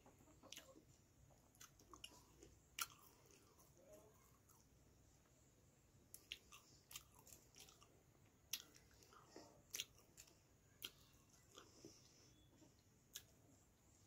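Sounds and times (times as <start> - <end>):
person chewing: 0.3 - 4.7, 6.1 - 13.6.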